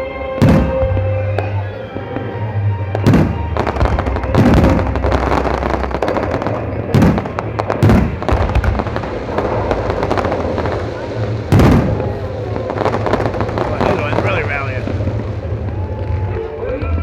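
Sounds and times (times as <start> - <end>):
fireworks booms: 0.0 - 17.0
fireworks crackling: 0.0 - 17.0.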